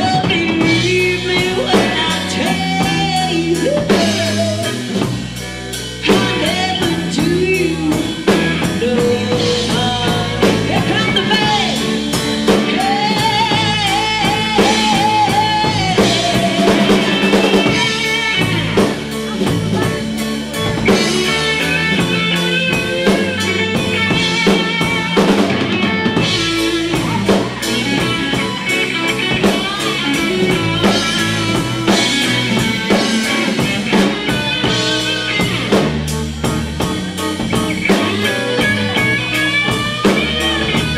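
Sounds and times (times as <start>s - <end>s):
person singing: 0.0s - 5.2s, 6.0s - 40.9s
live blues-rock band playing: 0.0s - 40.9s.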